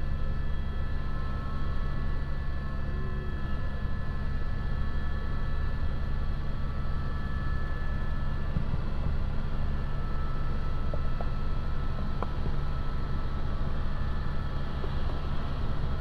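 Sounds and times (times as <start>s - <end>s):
helicopter rotor drone: 0.0s - 16.0s
high whine: 0.0s - 16.0s.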